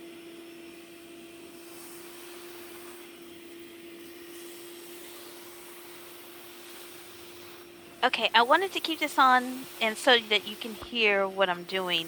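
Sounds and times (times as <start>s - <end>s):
handheld vacuum running: 0.0s - 12.0s.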